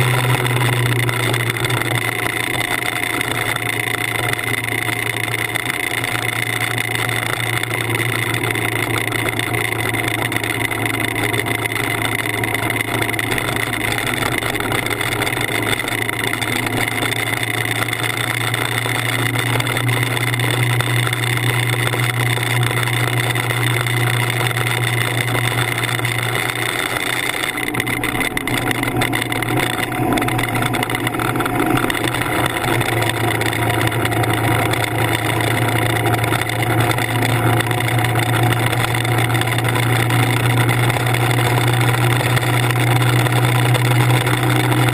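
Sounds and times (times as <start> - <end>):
motorcycle engine cruising: 0.0 - 44.9.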